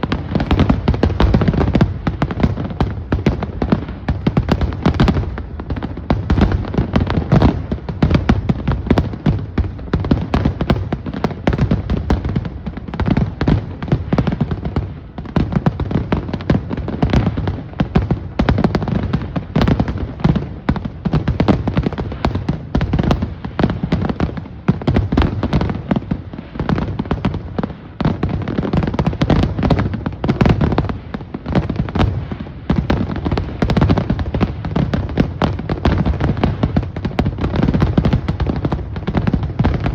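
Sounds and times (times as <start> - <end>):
fireworks booming and crackling: 0.0 - 39.9.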